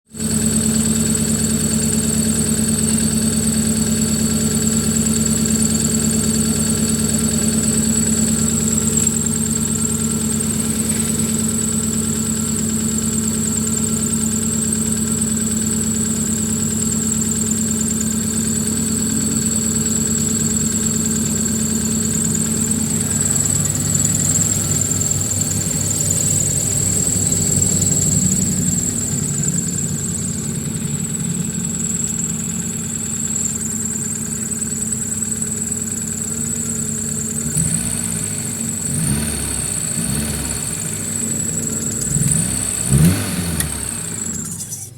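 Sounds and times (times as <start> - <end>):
car engine idling: 0.1 - 44.9.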